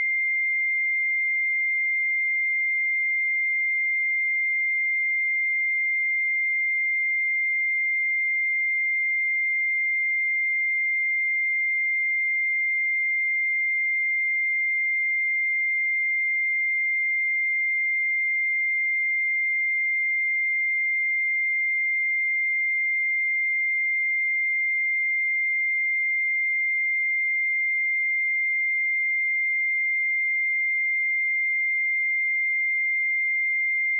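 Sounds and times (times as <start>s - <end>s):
high-pitched sine-wave test tone: 0.0s - 33.9s.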